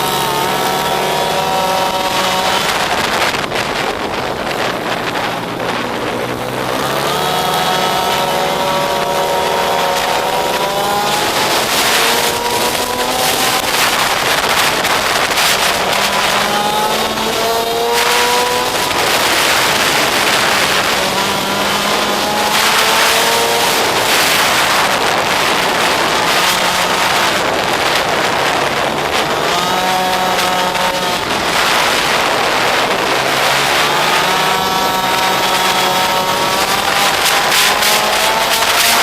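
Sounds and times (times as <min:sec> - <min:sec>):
pit bike engine revving: 0:00.0 - 0:39.0
steady rushing noise: 0:00.0 - 0:39.0.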